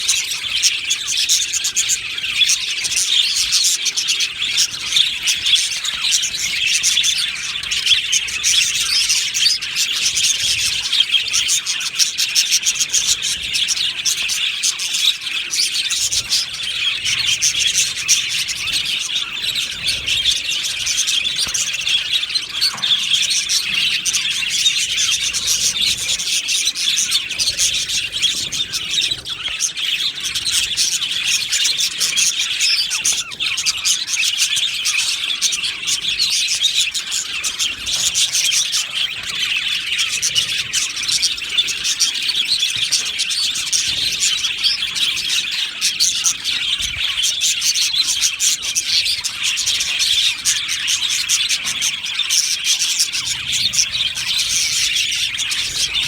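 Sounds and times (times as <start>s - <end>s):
budgerigars chirping and warbling: 0.0s - 56.0s.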